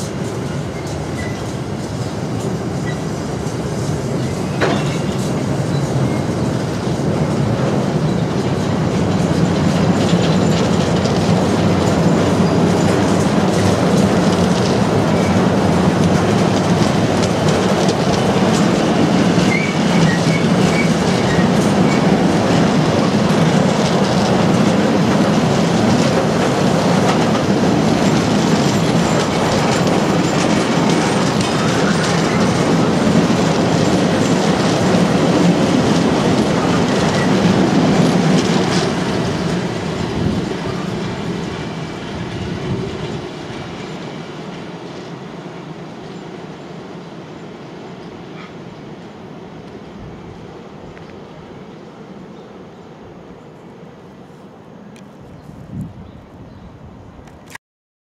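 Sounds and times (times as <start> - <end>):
train wheels rumbling on rails: 0.0 - 57.6.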